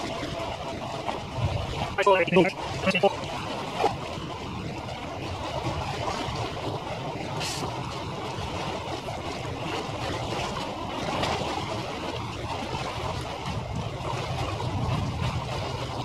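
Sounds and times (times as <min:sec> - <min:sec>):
sped-up harbour ambience: 0:00.0 - 0:16.0.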